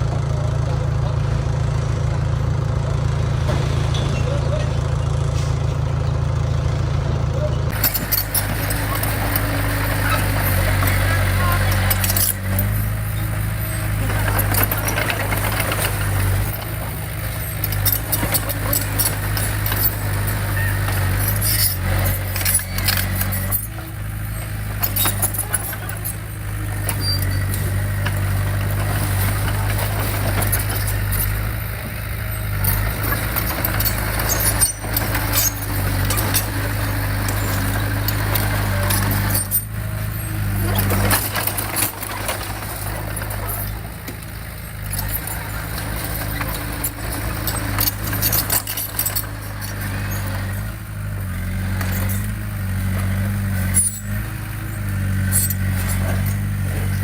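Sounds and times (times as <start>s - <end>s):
diesel engine under load: 0.0s - 57.0s
metallic clanks and rattles: 7.7s - 57.0s.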